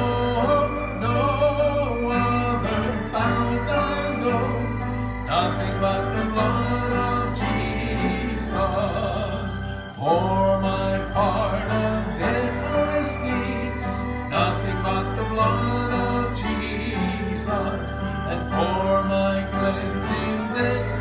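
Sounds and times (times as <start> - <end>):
man singing a hymn: 0.0 - 21.0.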